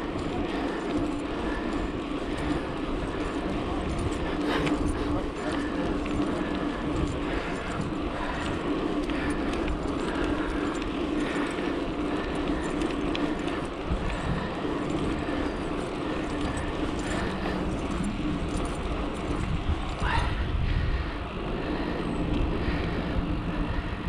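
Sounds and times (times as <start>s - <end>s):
bicycle tyres rolling on pavement: 0.0s - 24.0s
low hum: 0.0s - 24.0s
wind rushing over microphone: 0.0s - 24.0s.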